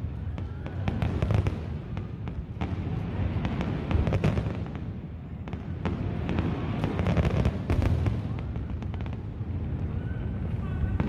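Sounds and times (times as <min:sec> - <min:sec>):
firework bangs and crackles: 0:00.0 - 0:11.0.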